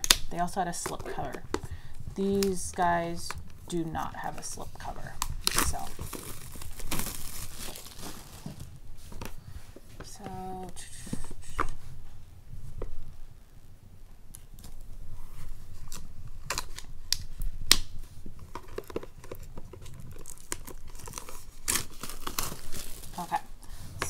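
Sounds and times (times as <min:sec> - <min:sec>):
plastic wrap crackling and crinkling: 0:00.0 - 0:24.0.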